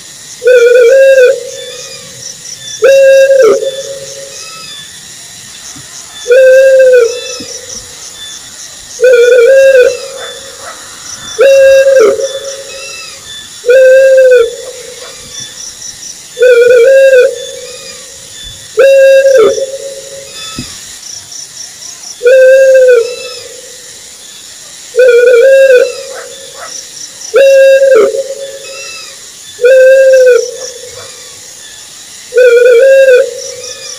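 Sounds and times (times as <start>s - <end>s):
owl hooting: 0.4s - 4.9s, 6.2s - 8.3s, 9.0s - 15.6s, 16.4s - 20.8s, 22.2s - 23.8s, 24.9s - 33.9s.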